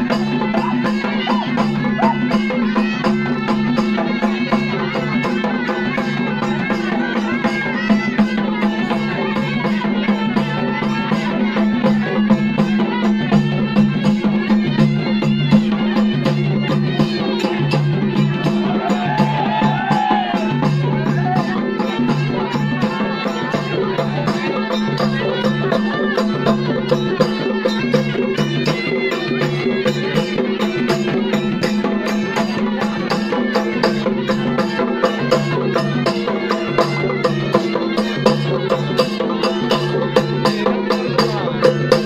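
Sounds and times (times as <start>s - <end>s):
droning folk melody: 0.0s - 42.0s
percussion strokes: 0.0s - 42.0s.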